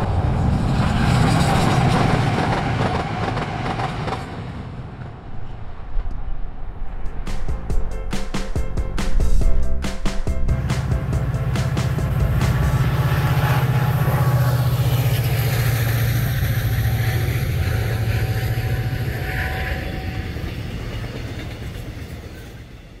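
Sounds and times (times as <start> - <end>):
locomotive drone: 0.0 - 23.0
train wheels rumbling: 0.0 - 23.0.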